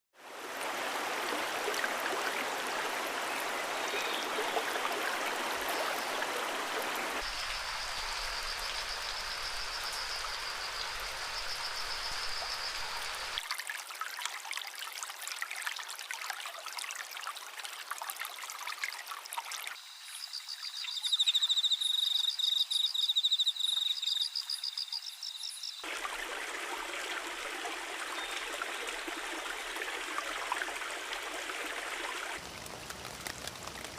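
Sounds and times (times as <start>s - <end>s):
stream water flowing: 0.2s - 20.0s, 25.8s - 33.9s.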